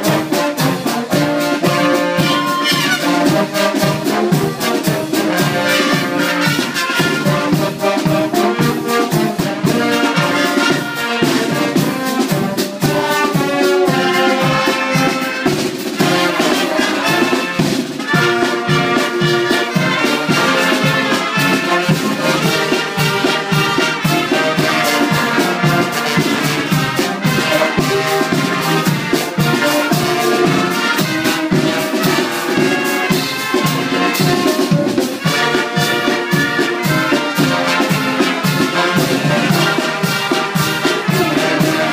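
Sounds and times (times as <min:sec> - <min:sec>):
brass music over a steady beat: 0:00.0 - 0:41.9.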